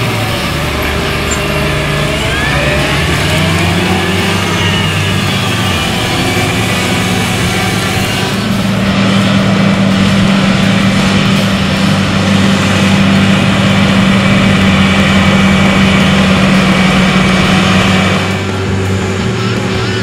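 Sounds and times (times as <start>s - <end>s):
tractor diesel engine running loud: 0.0s - 20.0s.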